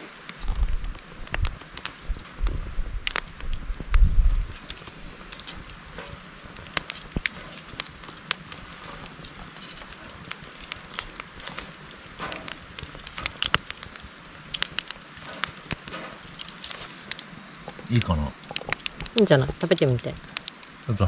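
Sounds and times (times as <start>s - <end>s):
charcoal fire crackling and popping: 0.0s - 21.0s.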